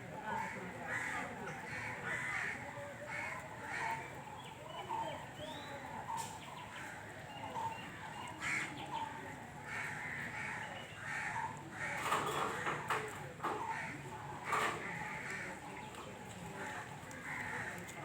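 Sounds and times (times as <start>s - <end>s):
outdoor background: 0.0s - 18.0s.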